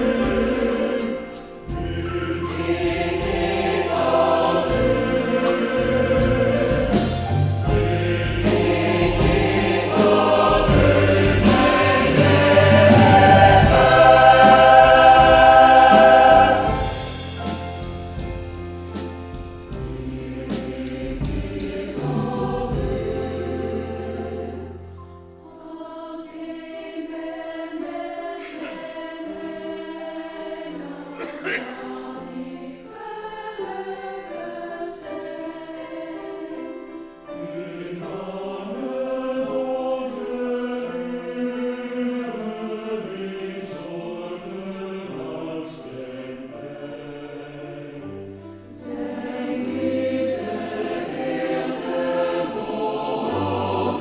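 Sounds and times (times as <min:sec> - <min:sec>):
mixed choir singing a hymn: 0:00.0 - 0:54.0.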